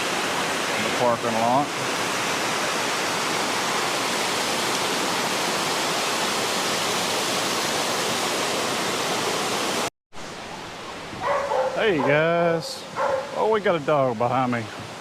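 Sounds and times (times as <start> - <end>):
faint hiss of water: 0.0 - 15.0
waterfall rushing: 0.0 - 15.0.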